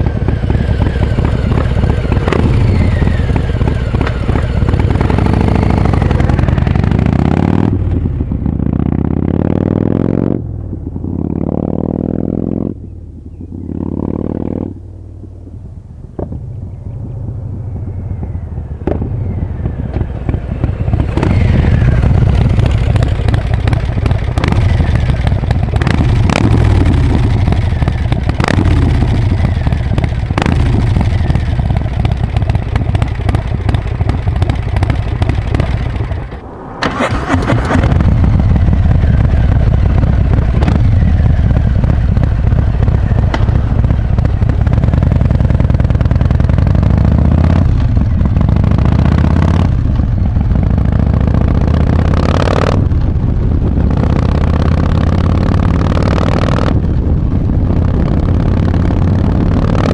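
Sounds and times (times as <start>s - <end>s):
motorcycle engine revving: 0.0s - 15.6s, 16.2s - 59.9s.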